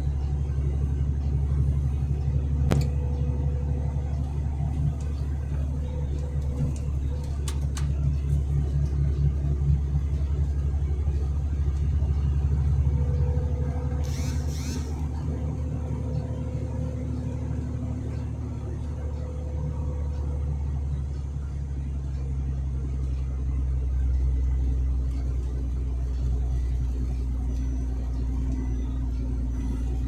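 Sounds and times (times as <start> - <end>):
truck engine droning: 0.0 - 30.0.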